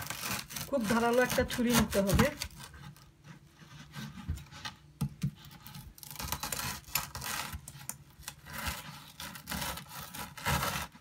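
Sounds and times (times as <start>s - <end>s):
knife sawing through crispy bar: 0.0s - 4.2s, 5.5s - 11.0s.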